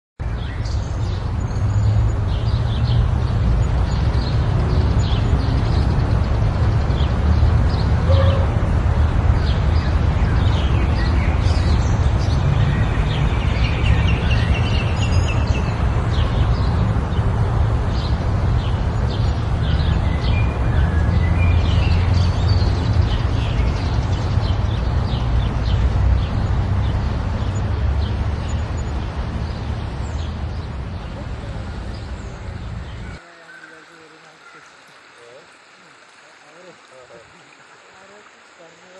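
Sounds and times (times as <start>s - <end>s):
forest birds chirping: 0.2s - 38.9s.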